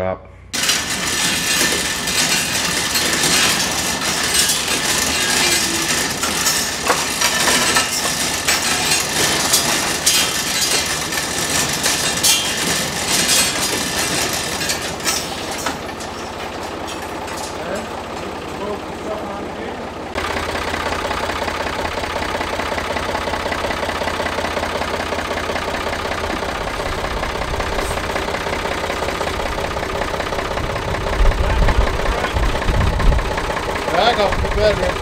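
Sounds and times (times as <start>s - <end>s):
garage door rollers clattering: 0.6s - 35.0s.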